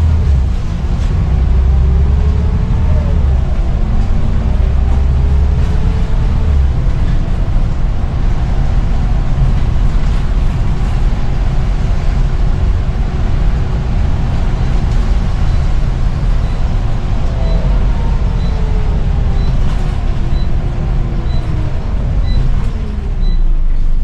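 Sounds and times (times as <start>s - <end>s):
bus engine droning: 0.0s - 24.0s
road noise: 0.0s - 24.0s.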